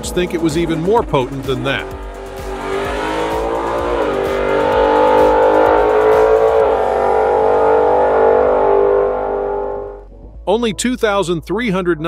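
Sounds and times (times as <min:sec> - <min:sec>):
car engine at full throttle: 0:00.0 - 0:10.2.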